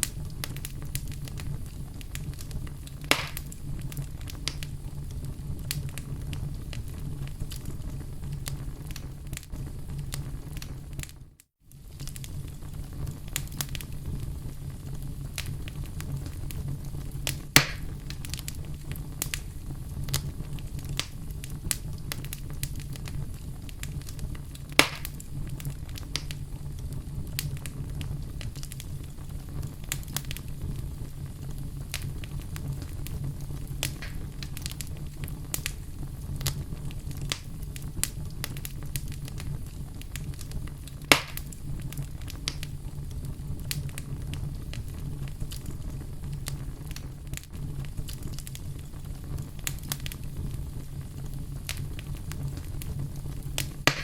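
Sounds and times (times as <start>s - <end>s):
steady low rumble: 0.0s - 11.0s, 12.0s - 54.0s
fire crackling and popping: 0.0s - 54.0s.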